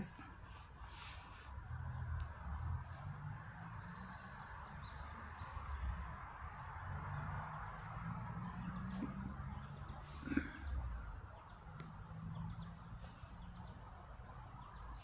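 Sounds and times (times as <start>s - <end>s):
outdoor ambience: 0.0s - 15.0s.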